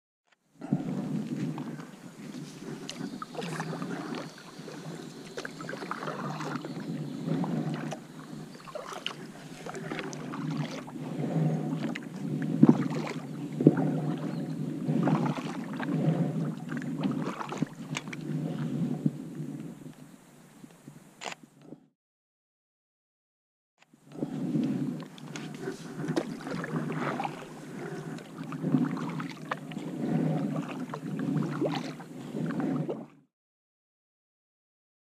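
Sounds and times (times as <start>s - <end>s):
kayak paddle splashing: 0.6s - 19.7s, 24.2s - 33.2s
water swishing: 0.6s - 20.0s, 24.1s - 33.3s.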